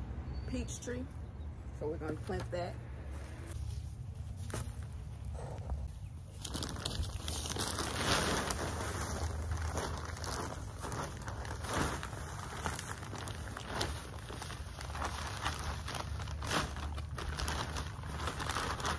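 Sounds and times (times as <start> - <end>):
scraping in soil and leaves: 3.1 - 18.9.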